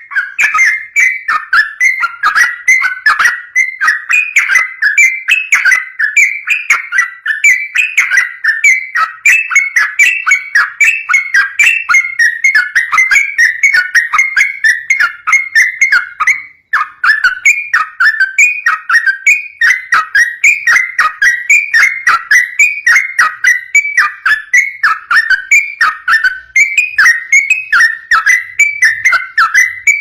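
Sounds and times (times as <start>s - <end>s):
bird singing whistled notes: 0.0s - 30.0s.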